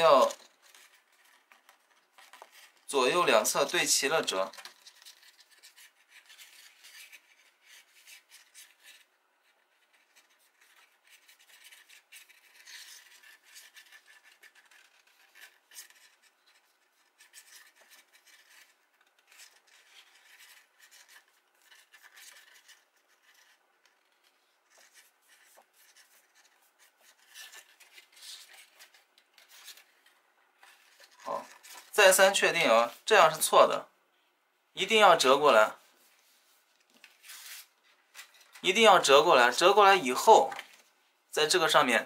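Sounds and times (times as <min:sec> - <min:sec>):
cardstock rustling while folded: 0:00.0 - 0:33.0, 0:35.9 - 0:41.0.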